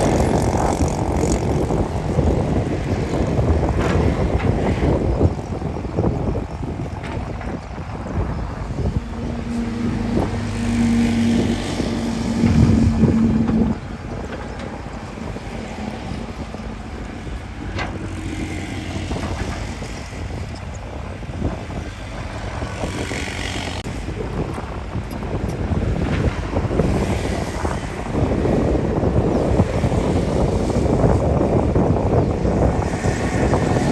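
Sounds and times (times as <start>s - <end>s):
heavy machinery engine humming: 0.0s - 33.9s
wind buffeting microphone: 0.0s - 33.9s.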